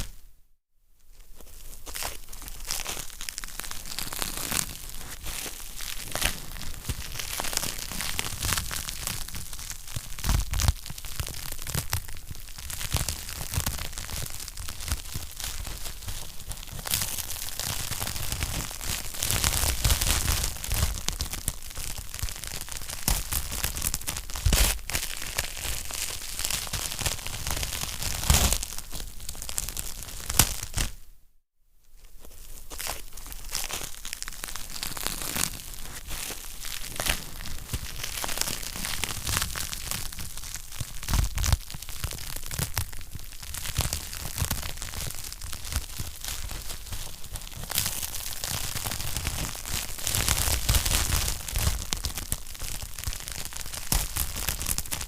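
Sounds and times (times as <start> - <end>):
wood fire crackling: 2.0 - 30.8, 32.8 - 55.0.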